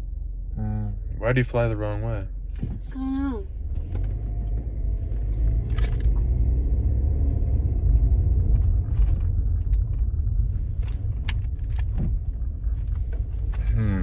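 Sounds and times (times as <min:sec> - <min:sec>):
car cabin low rumble: 0:00.0 - 0:14.0.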